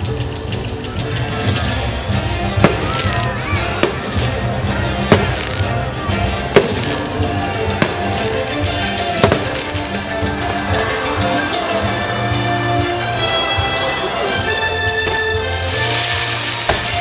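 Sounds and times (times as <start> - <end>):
music soundtrack: 0.0 - 17.0
fireworks bangs: 1.4 - 12.2, 13.6 - 17.0.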